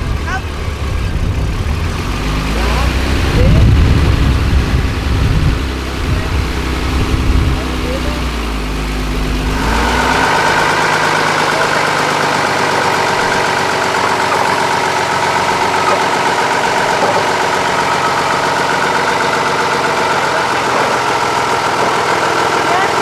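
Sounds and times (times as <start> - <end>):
truck engine idling: 0.0 - 23.0
high whine: 2.5 - 22.9.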